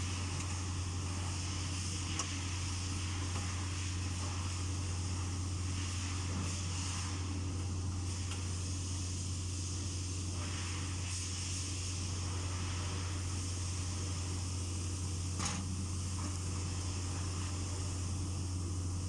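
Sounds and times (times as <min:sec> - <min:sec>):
low hum with hiss: 0:00.0 - 0:19.0.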